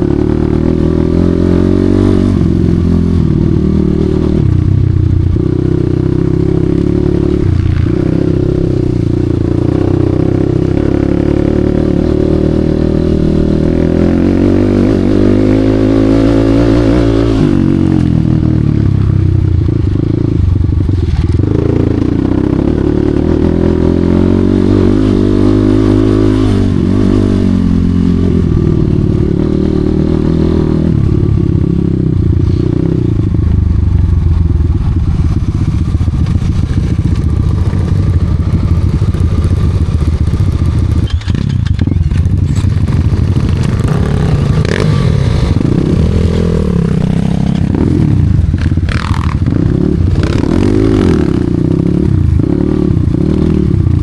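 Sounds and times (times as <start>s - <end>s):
dirt bike engine revving: 0.0s - 18.7s, 20.1s - 33.2s, 34.8s - 54.0s.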